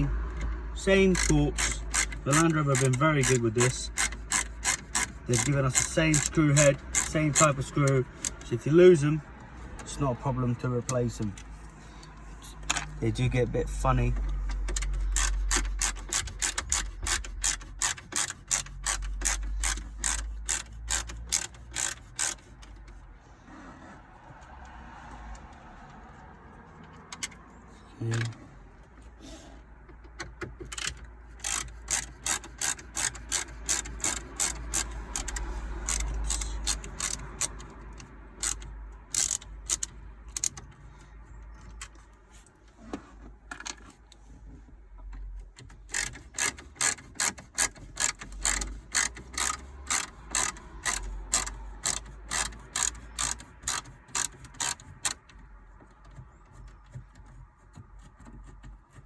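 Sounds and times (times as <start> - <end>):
ratcheting driver clicking: 0.0 - 23.0, 29.8 - 42.2, 45.1 - 59.0.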